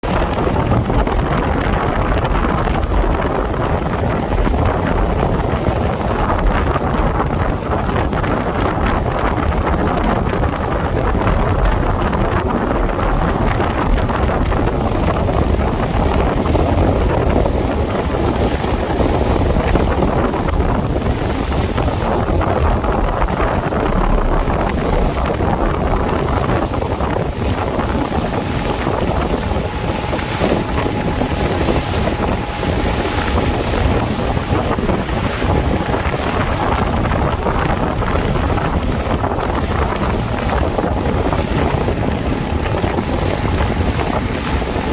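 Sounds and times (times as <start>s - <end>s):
boat on the sea: 0.0s - 44.9s
wind buffeting microphone: 0.0s - 44.9s.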